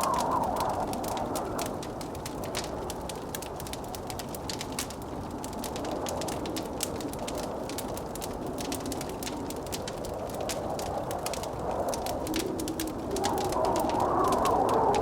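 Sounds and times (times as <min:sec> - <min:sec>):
blizzard wind rushing: 0:00.0 - 0:03.8, 0:05.2 - 0:15.0
wood fire crackling and popping: 0:00.0 - 0:15.0.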